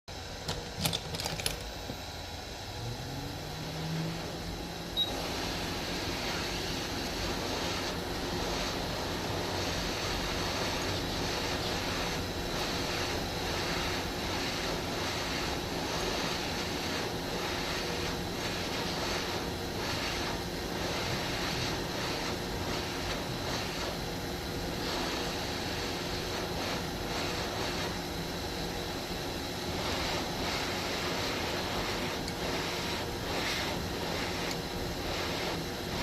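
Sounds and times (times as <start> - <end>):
hot air station blowing: 0.1 - 36.0.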